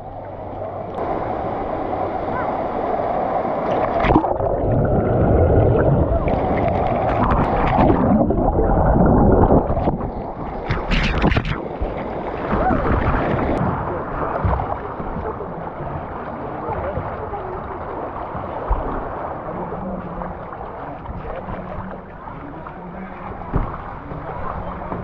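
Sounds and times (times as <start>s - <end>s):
water splashing and churning: 0.0s - 25.0s.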